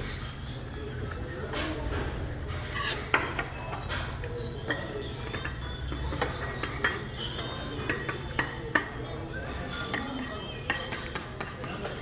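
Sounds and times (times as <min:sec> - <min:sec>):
utensils clinking against dishes: 0:00.0 - 0:12.0.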